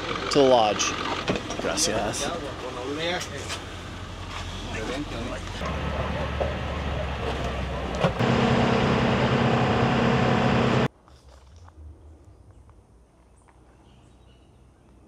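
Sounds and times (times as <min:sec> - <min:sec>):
bus engine and road noise: 0:00.0 - 0:13.1.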